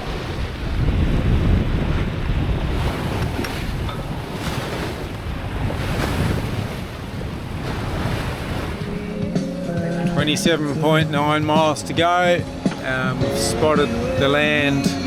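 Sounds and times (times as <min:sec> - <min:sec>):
sea water rushing along hull: 0:00.0 - 0:15.0
wind buffeting microphone: 0:00.0 - 0:15.0.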